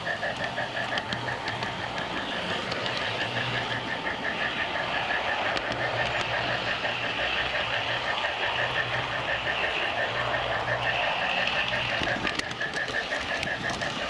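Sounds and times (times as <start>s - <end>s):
model train running on track: 0.0s - 14.0s.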